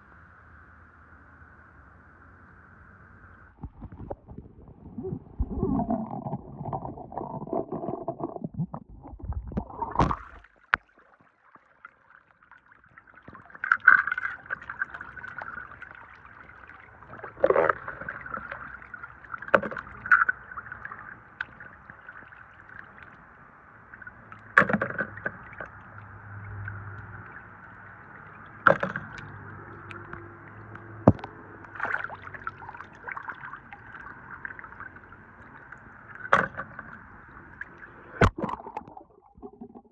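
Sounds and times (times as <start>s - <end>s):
steady water noise: 1.1s - 39.9s
water sloshing and dripping: 3.6s - 39.9s.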